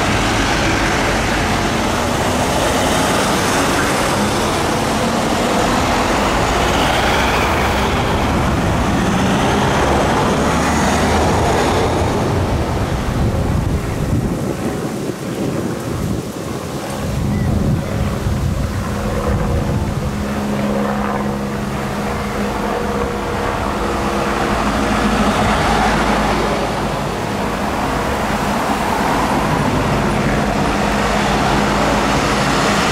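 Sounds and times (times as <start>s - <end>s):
vehicles driving past: 0.0s - 32.9s.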